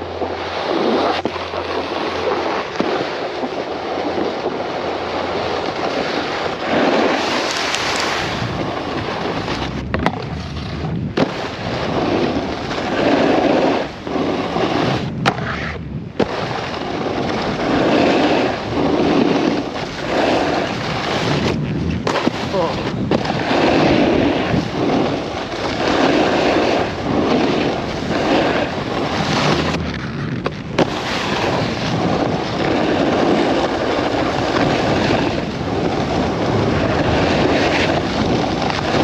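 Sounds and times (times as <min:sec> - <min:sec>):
snowboard scraping over snow: 0:00.0 - 0:39.0
wind rushing over microphone: 0:00.0 - 0:39.0.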